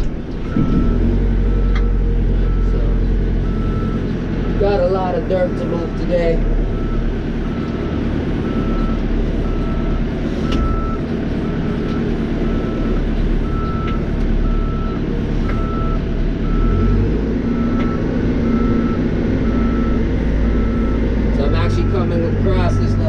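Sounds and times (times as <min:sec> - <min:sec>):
diesel engine running: 0:00.0 - 0:23.0
reversing alarm beeping: 0:00.5 - 0:23.0.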